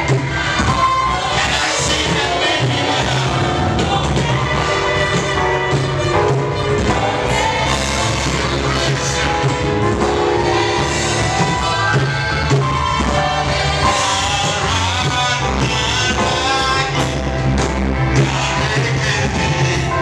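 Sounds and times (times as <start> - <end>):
band playing gospel music: 0.0 - 20.0
people singing: 0.0 - 20.0.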